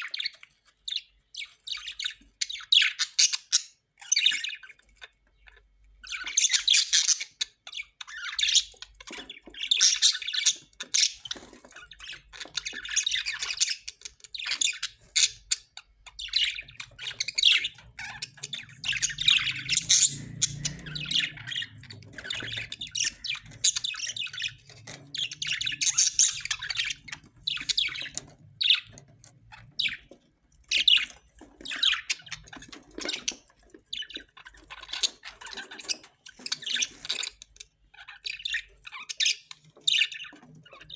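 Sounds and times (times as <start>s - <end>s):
parrots squawking and chattering: 0.0s - 40.9s.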